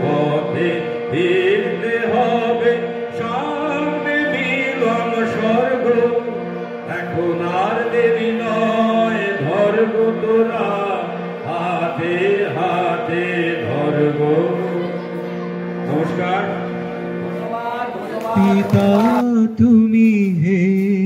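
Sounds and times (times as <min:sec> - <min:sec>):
man singing: 0:00.0 - 0:15.0, 0:17.3 - 0:21.0
harmonium holding notes: 0:00.0 - 0:21.0.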